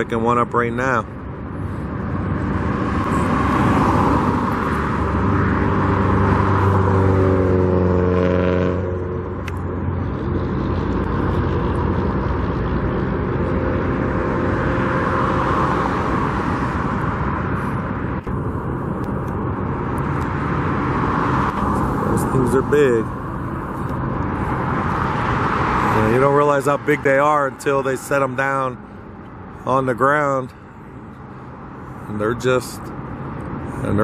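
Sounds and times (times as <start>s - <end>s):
road traffic passing: 0.0s - 34.0s
vehicle engine drone passing: 0.0s - 34.0s.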